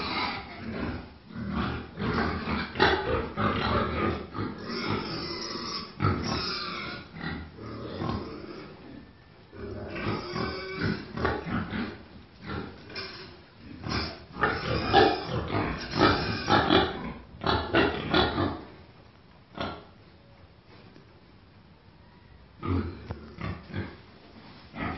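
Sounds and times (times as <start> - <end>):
pigs grunting: 0.0 - 18.8, 19.5 - 20.0, 22.6 - 24.1.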